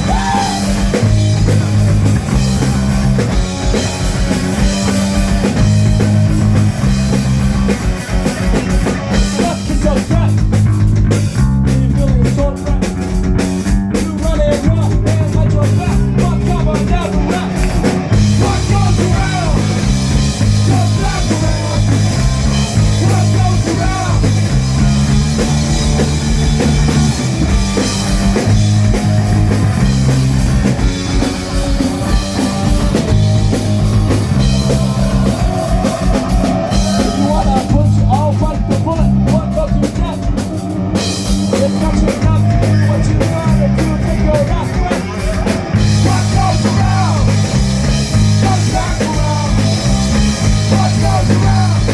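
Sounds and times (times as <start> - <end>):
distorted electric guitar: 0.0 - 51.9
drum kit: 0.0 - 51.9
loud bass line: 0.0 - 51.9.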